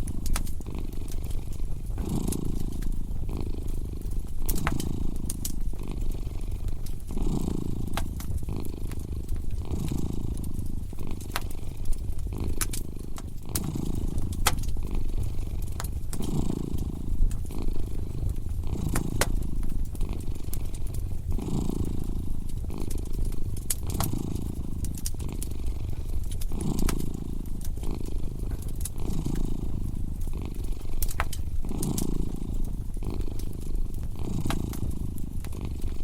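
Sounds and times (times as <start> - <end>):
cat purring: 0.0 - 36.0
fire crackling and popping: 0.0 - 36.0.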